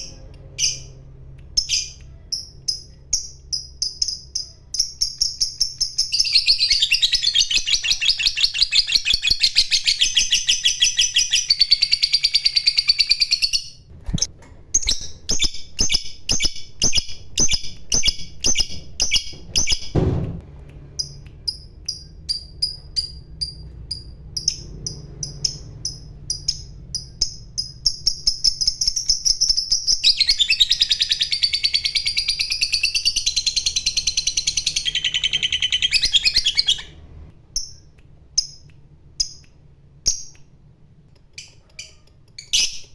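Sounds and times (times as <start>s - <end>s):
lovebird sharp chirps: 0.0s - 19.9s, 21.0s - 40.5s, 41.4s - 42.9s.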